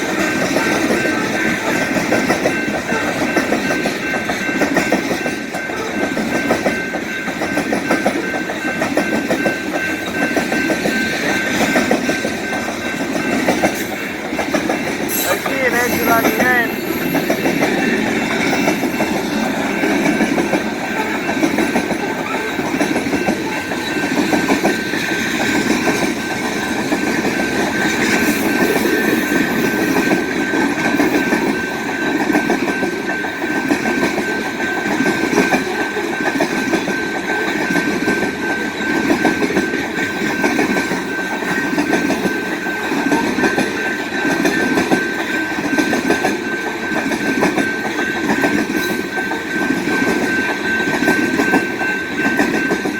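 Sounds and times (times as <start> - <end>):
train wheels clattering over rail joints: 0.0 - 15.5, 16.8 - 52.9.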